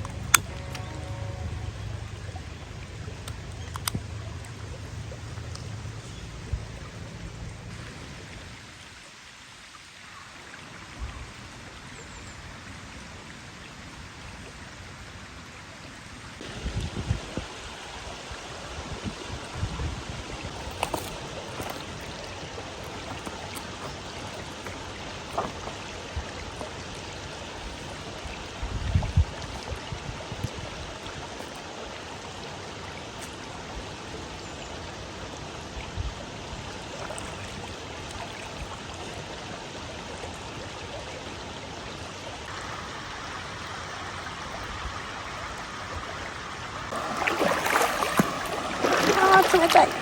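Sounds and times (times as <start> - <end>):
flowing water rushing: 0.0 - 50.0.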